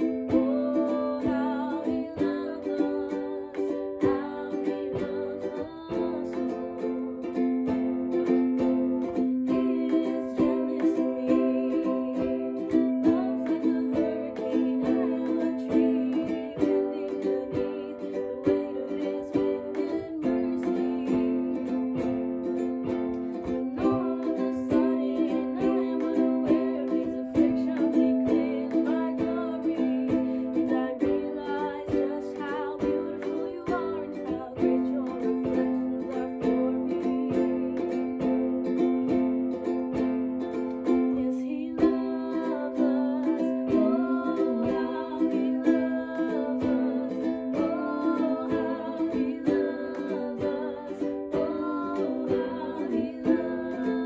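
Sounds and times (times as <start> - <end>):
girl singing: 0.0 - 54.0
ukulele strummed chords: 0.0 - 54.0.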